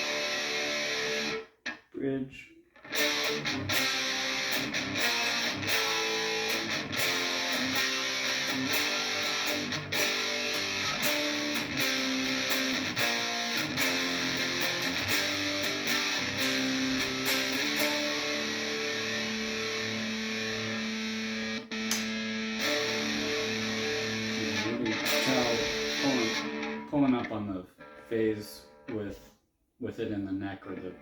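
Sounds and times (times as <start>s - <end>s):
distorted electric guitar: 0.0s - 1.8s, 2.8s - 29.3s.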